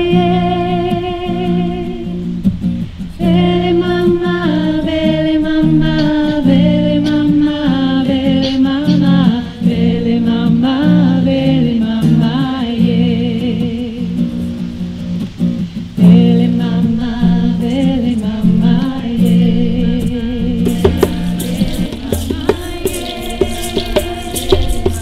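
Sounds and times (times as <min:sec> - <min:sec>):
women singing slow song: 0:00.0 - 0:02.4, 0:03.1 - 0:14.7, 0:16.0 - 0:25.0.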